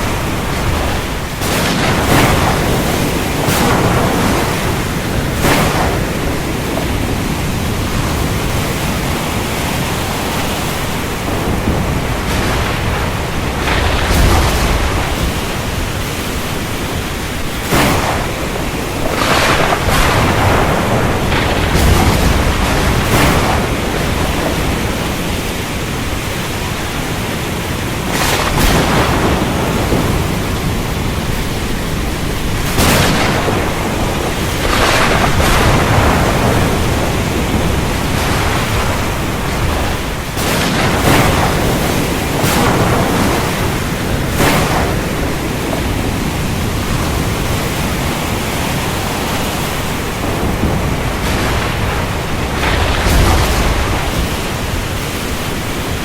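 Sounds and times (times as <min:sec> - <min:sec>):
heavy rain pouring: 0:00.0 - 0:56.0
thunder cracks: 0:00.0 - 0:56.0.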